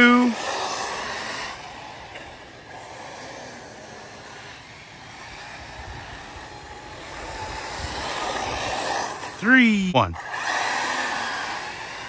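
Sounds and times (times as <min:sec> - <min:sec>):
rc cars motor and tyre noise: 0:00.0 - 0:12.0.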